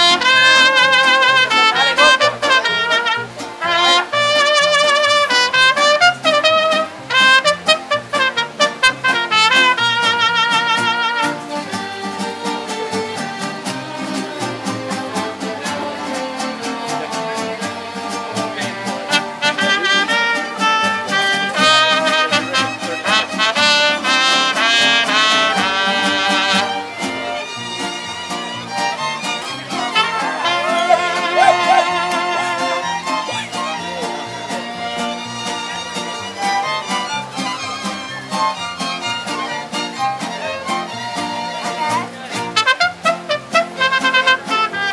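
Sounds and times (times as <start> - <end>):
mariachi band playing: 0.0 - 44.9
trumpets playing melody: 0.0 - 44.9
violins: 0.0 - 44.9.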